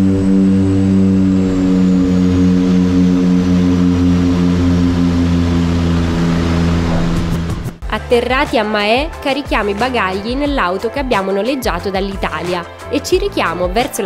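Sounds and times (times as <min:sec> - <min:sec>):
turboprop engines droning: 0:00.0 - 0:13.9.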